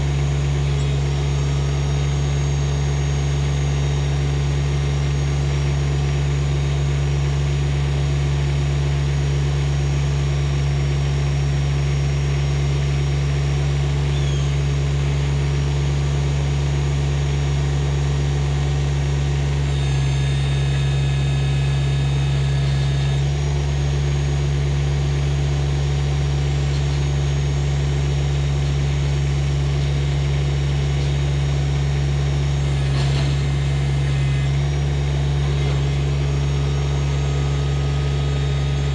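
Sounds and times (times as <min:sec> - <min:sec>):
small diesel engine running: 0:00.0 - 0:38.9.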